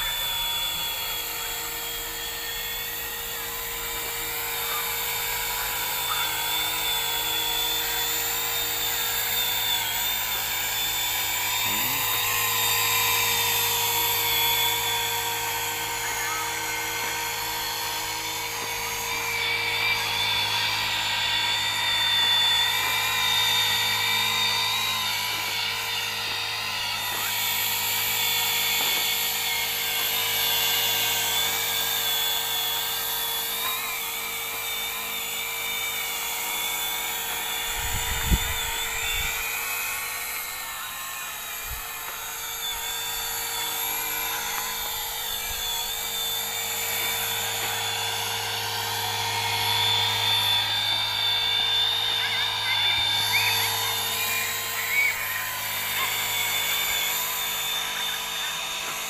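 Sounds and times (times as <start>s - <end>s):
electric motor whining: 0.0s - 59.0s
rotor blades whirring: 0.0s - 59.0s.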